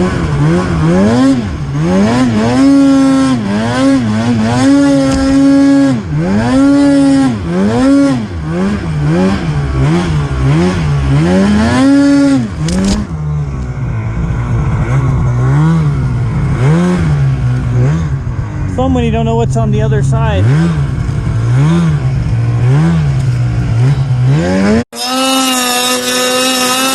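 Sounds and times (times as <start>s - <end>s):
snowmobile engine revving: 0.0s - 26.9s.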